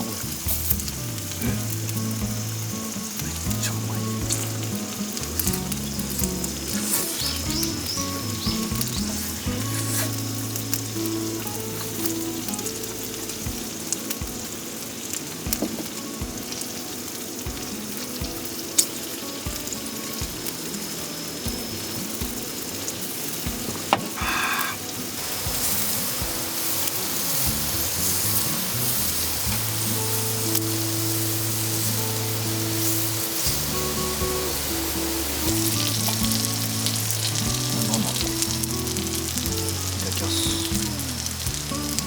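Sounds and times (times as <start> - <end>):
chicken sizzling in a pan: 0.0 - 42.0
soft background music: 0.0 - 42.0.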